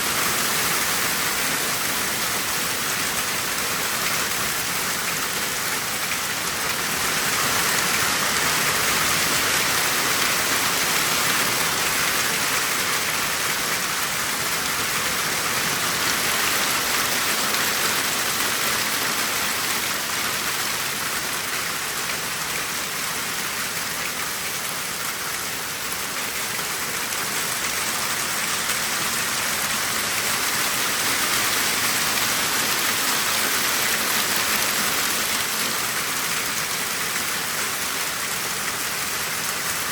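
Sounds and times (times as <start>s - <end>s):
heavy rain and hail pelting: 0.0s - 39.9s.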